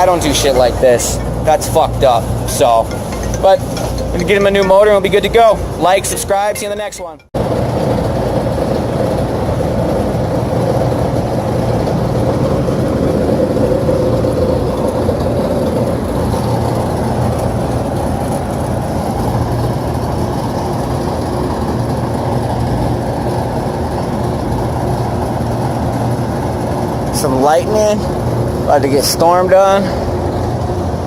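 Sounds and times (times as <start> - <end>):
hvac machinery humming and whirring: 0.0 - 31.0
low electrical drone: 0.0 - 31.0.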